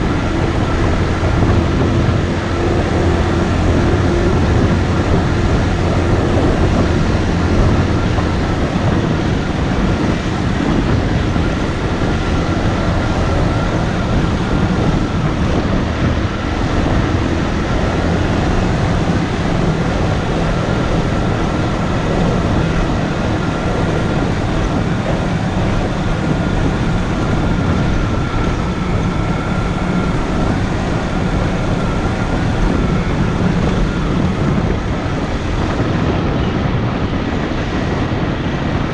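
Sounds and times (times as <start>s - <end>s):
motorcycle engine running: 0.0s - 38.9s
road noise rushing: 0.0s - 38.9s.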